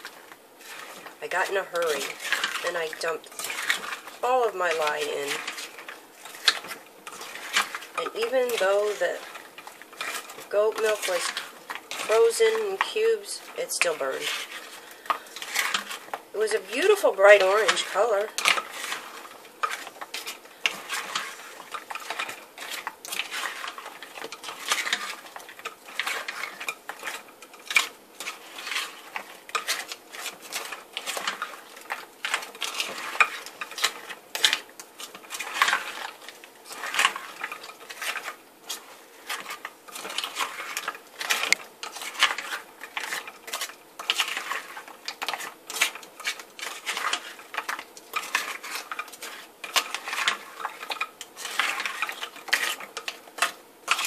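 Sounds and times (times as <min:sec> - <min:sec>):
frozen cubes clinking in glass bowl: 0:00.0 - 0:54.0.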